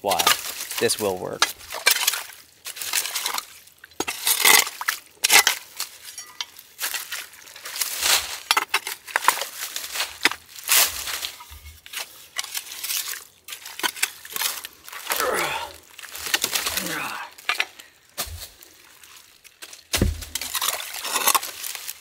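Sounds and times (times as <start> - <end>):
shovel scraping soil: 0.1 - 15.4, 19.6 - 22.0
wet mud squelching: 0.1 - 22.0.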